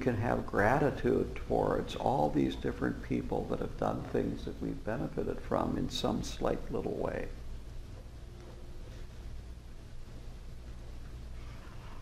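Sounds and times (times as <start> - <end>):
faint background hiss: 0.0 - 12.0
low hum: 0.0 - 12.0.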